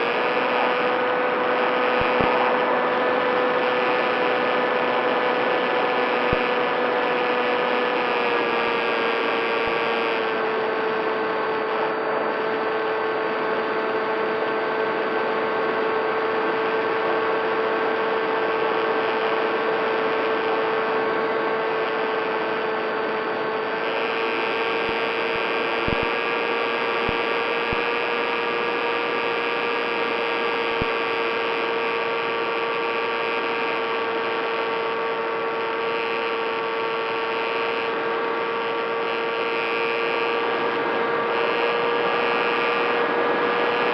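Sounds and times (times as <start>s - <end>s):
model plane motor whine: 0.0s - 43.9s.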